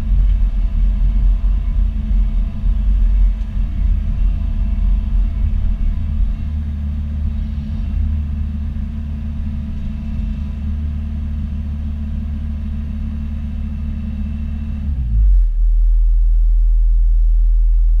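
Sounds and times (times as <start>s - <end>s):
diesel engine droning: 0.0s - 18.0s
even low hum: 0.0s - 18.0s.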